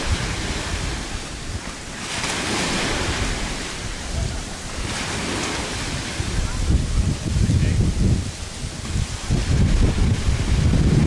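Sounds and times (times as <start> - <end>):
ocean waves washing in: 0.0 - 11.0
wind buffeting microphone: 0.0 - 11.0.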